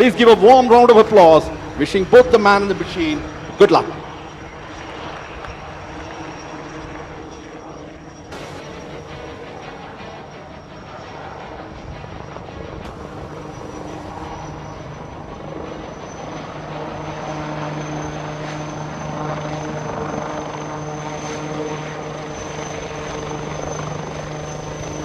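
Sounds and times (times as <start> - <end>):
helicopter turbine and rotor: 0.0 - 25.0.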